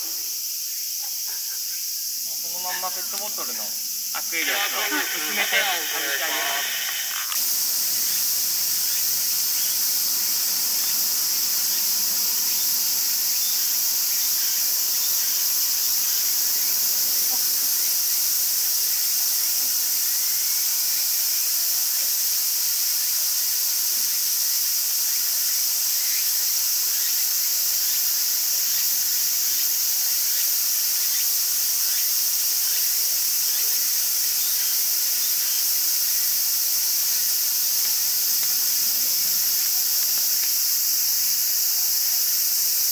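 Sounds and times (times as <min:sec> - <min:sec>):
cicadas buzzing: 0:00.0 - 0:42.9.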